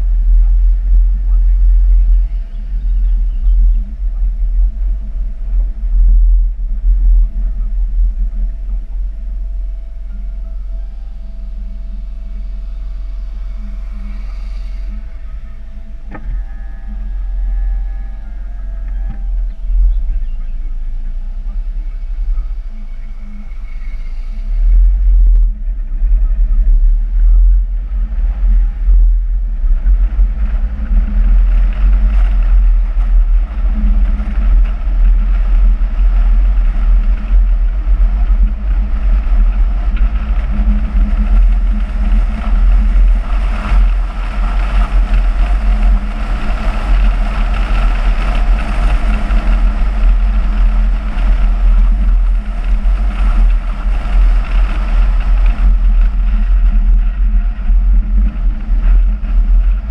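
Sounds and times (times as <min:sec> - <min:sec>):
car engine: 0:00.0 - 0:59.9
road noise: 0:00.0 - 0:59.9
wind buffeting microphone: 0:00.0 - 0:59.9.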